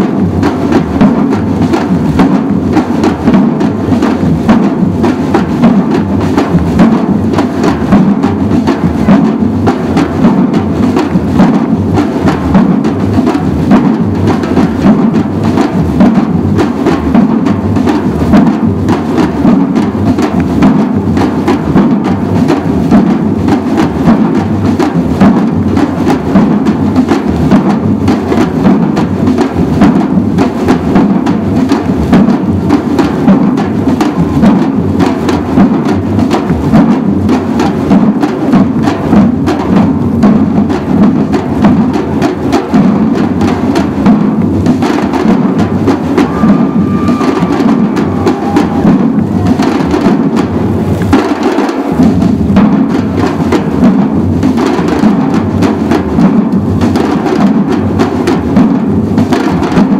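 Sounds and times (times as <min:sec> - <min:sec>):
deep bass drum pattern: 0:00.0 - 0:59.9
samba drum group playing: 0:00.0 - 0:59.9.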